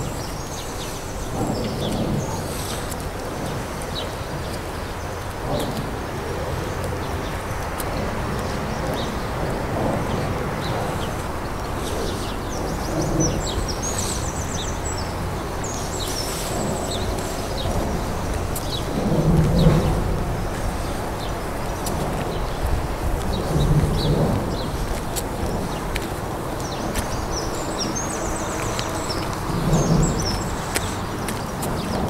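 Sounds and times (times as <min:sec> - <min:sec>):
small birds chirping: 0:00.0 - 0:32.0
steady low rumble: 0:00.0 - 0:32.0.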